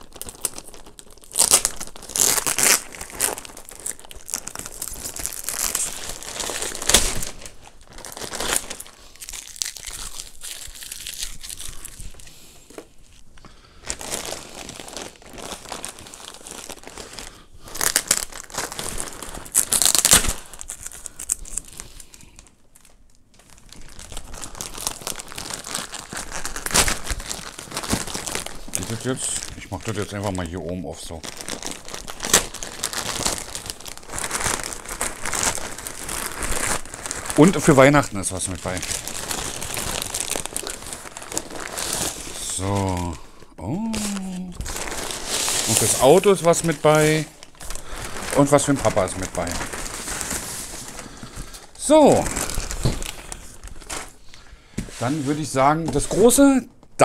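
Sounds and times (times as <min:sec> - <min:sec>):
plastic ripping: 0:00.0 - 0:12.9, 0:13.8 - 0:57.0
plastic mailer bag crinkling: 0:00.0 - 0:13.2, 0:13.8 - 0:56.6.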